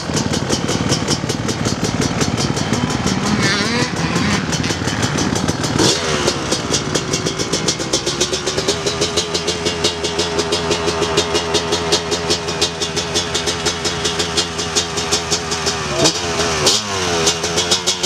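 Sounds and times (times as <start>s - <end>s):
motocross bike engine idling: 0.0s - 18.0s.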